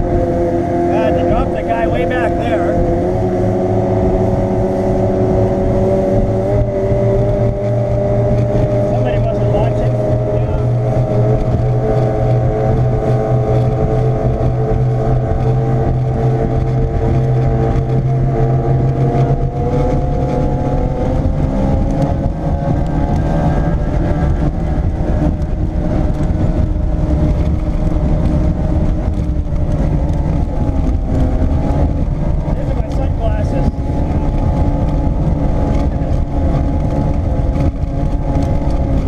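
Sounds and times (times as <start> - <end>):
outboard motor running: 0.0 - 39.0
water noise against hull: 0.0 - 39.0
wind rush on microphone: 0.0 - 39.0.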